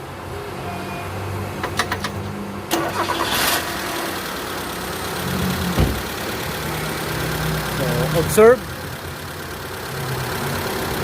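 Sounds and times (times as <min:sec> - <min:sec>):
car engine starting and running: 0:01.5 - 0:11.0.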